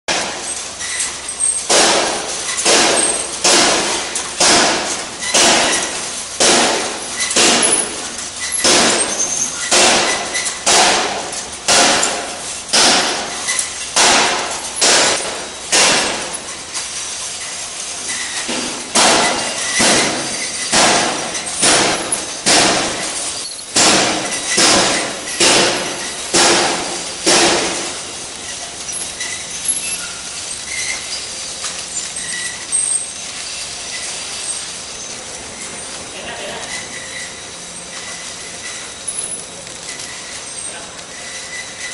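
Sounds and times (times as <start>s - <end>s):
machine metallic clacking: 0.1s - 36.0s.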